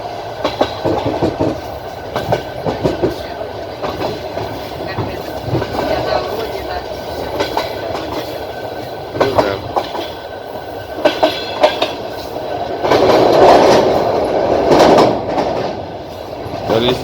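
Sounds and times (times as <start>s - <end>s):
train wheels running on track: 0.0s - 17.0s
wheels clicking over rail joints: 0.0s - 17.0s.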